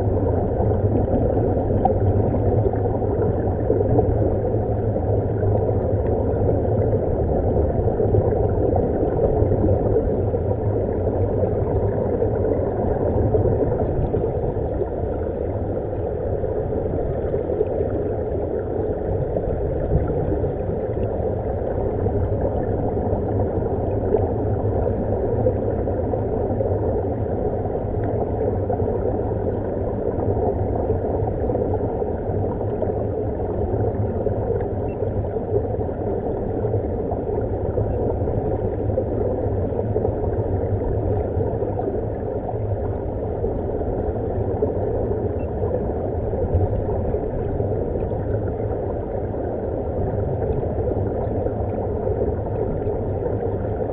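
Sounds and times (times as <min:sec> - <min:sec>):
underwater air bubbling: 0:00.0 - 0:53.9.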